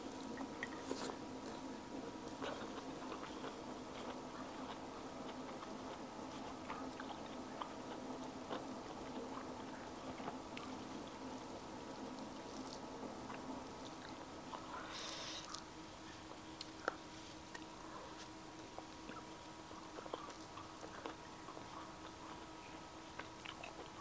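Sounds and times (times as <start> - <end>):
faint steady hum: 0.0 - 24.0
person chewing: 0.1 - 15.7, 16.3 - 22.4, 23.0 - 24.0.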